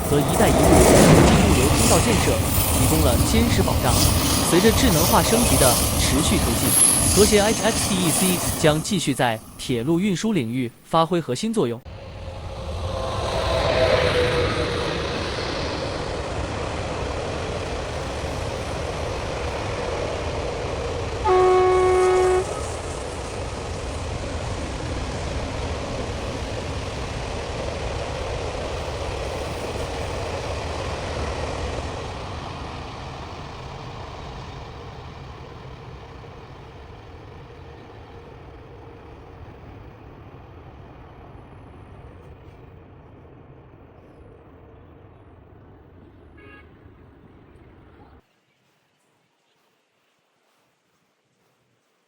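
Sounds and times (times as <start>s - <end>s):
train rumbling past: 0.0s - 48.2s.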